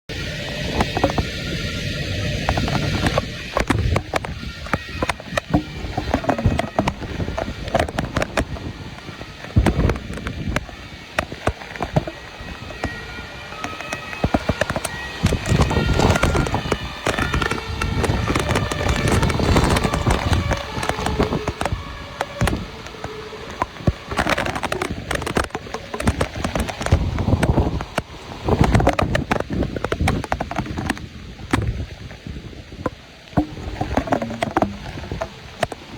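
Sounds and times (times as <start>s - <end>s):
heavy rain spattering: 0.1s - 35.9s
low rumbling: 0.1s - 35.9s
sharp clicks and knocks: 0.7s - 32.2s, 32.8s - 35.9s.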